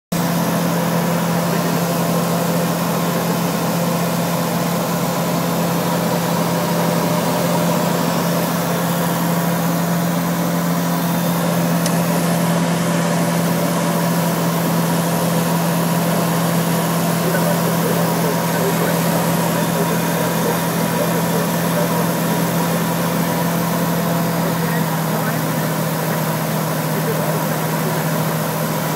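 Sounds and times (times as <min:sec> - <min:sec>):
aircraft engine and propeller drone: 0:00.1 - 0:28.9.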